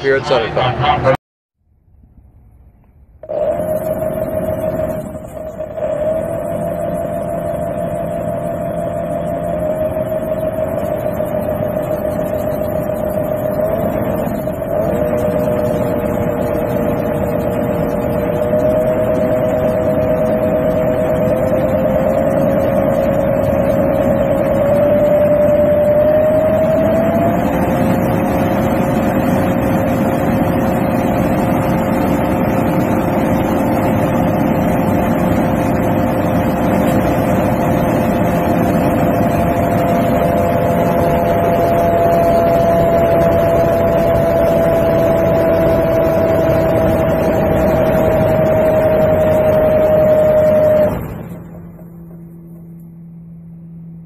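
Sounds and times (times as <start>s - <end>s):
electric motor whining: 3.2s - 52.8s.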